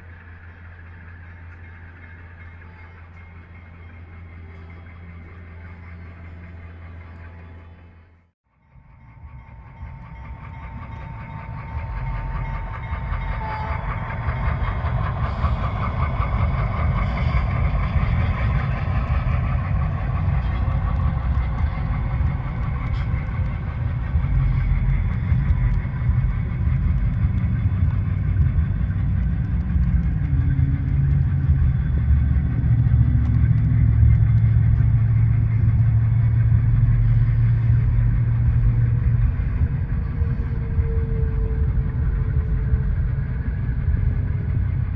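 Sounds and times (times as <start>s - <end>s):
model locomotive engine drone: 0.0s - 44.9s.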